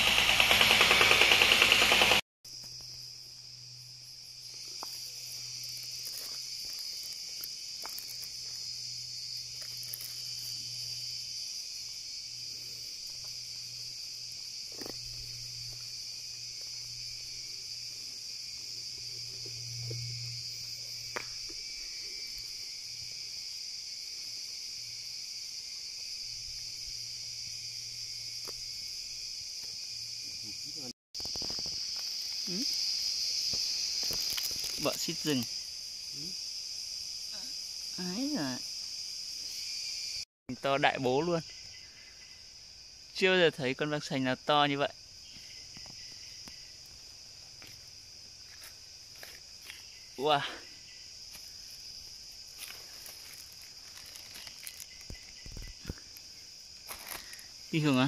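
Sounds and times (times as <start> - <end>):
insects droning shrilly: 0.0 - 58.0.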